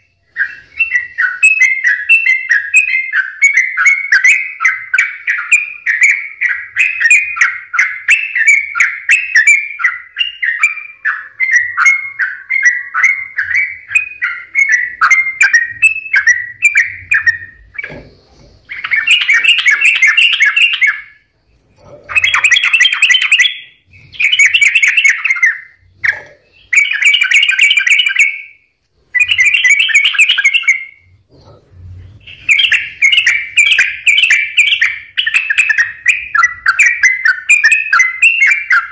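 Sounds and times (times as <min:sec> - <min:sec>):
bird singing bubbly chattering notes: 0:00.0 - 0:31.6, 0:32.2 - 0:38.9.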